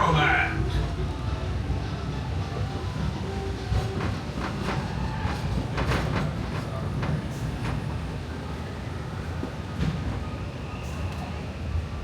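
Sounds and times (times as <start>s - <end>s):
steam train rumbling on track: 0.6s - 12.0s.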